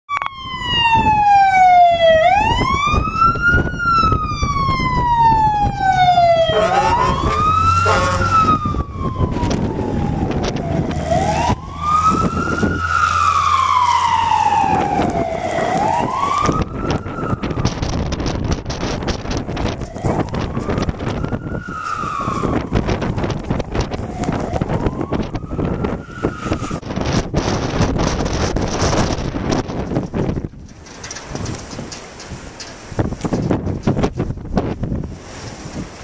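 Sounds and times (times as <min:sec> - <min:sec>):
emergency siren wailing: 0:00.1 - 0:30.4.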